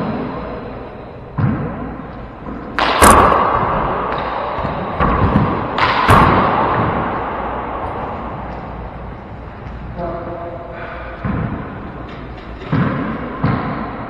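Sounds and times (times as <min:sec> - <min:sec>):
ball smacking off walls echoing: 0:01.3 - 0:09.8, 0:11.1 - 0:14.0.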